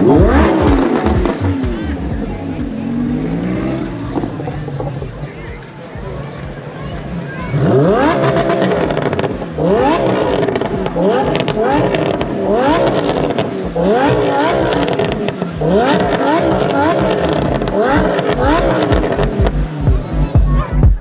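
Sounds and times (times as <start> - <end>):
supercar engines revving: 0.0 - 20.8.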